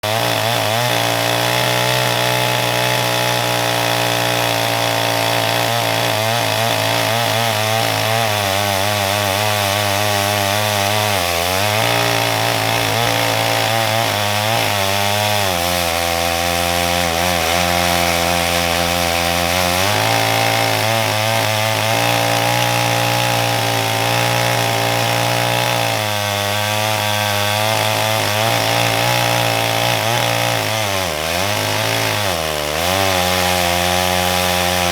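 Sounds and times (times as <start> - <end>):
chainsaw ripping wood: 0.0 - 34.9.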